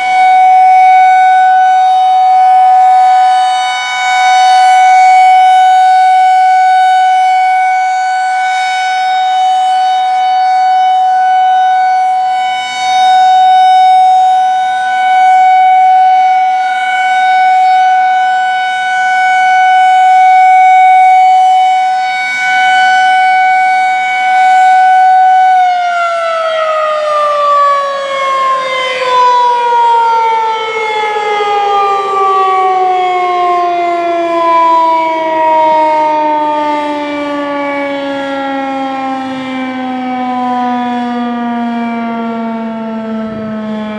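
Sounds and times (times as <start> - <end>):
siren winding down: 0.0 - 43.9
tornado siren alert tone: 0.0 - 43.9.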